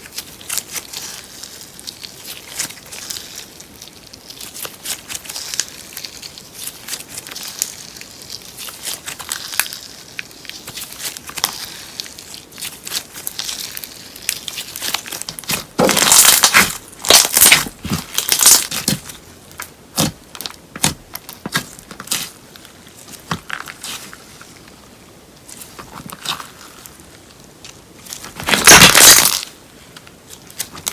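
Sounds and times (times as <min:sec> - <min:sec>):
slime crackling and popping: 0:00.0 - 0:24.8, 0:25.4 - 0:30.9.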